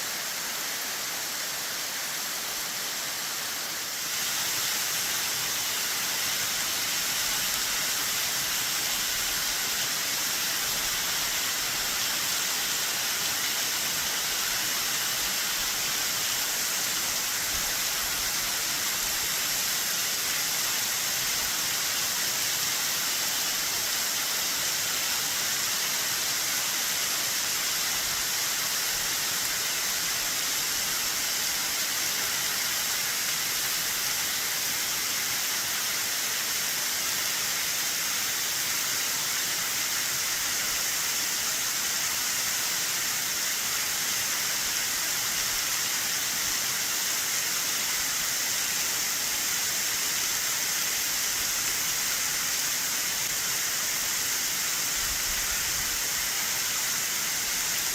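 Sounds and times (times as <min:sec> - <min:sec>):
waterfall splashing: 0:00.0 - 0:57.9.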